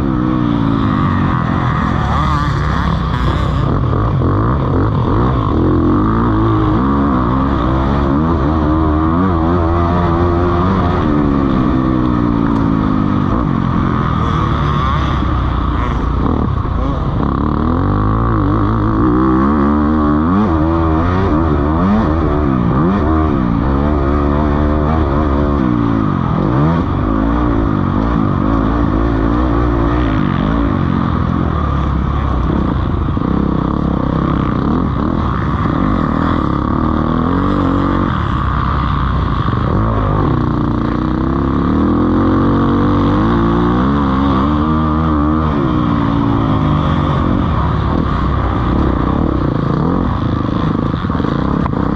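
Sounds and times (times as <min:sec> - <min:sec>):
motocross bikes revving: 0:00.0 - 0:51.9.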